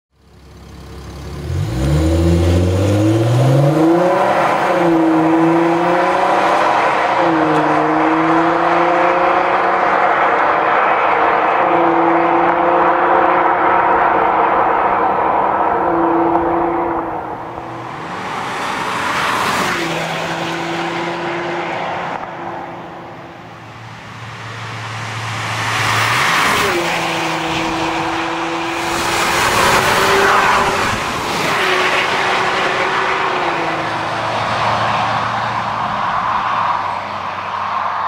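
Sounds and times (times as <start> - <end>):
tyre and road noise: 0.2 - 38.0.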